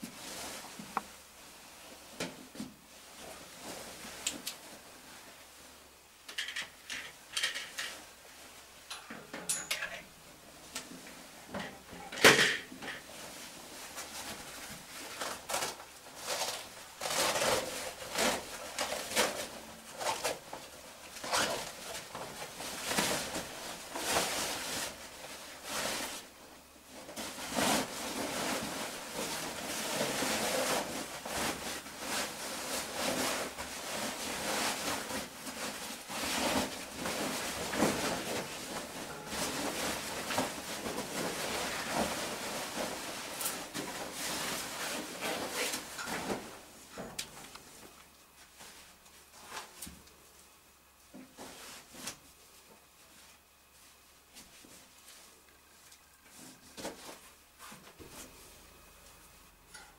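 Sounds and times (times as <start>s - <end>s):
fabric rustling and rubbing: 0.0s - 2.1s, 2.9s - 5.9s, 13.0s - 46.8s, 47.7s - 59.3s.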